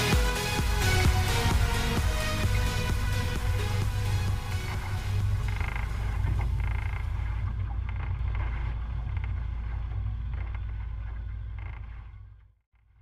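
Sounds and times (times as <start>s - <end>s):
boat low rumble: 0.0s - 13.0s.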